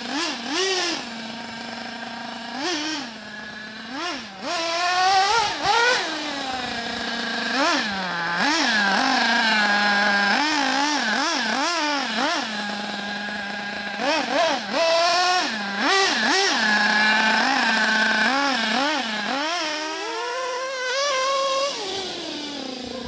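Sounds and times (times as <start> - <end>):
model engine revving in bursts: 0.0 - 23.0.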